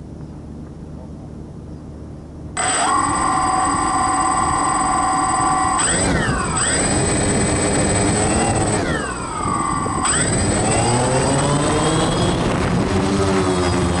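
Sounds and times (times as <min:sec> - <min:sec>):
drone propellers whining: 0:02.6 - 0:14.0.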